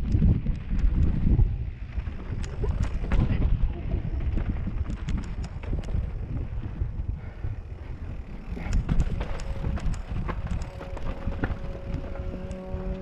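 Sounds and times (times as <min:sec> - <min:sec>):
bike clicks and rattles: 0:00.0 - 0:13.0
wind rumble on microphone: 0:00.0 - 0:13.0.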